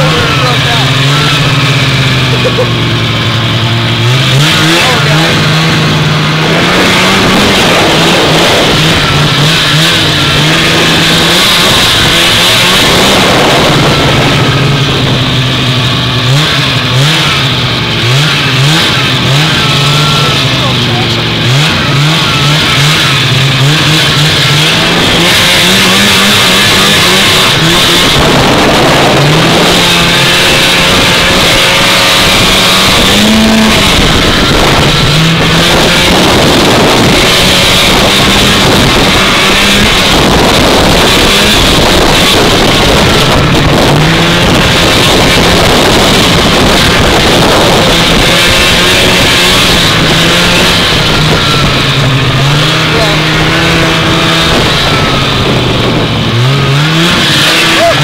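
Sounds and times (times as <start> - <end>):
steady rushing noise: 0.0 - 58.0
two-stroke snowmobile engine: 0.0 - 58.0.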